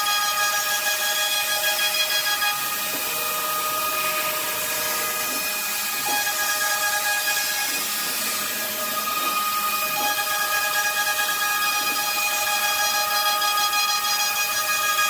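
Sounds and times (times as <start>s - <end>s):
cnc router whine: 0.0s - 15.0s.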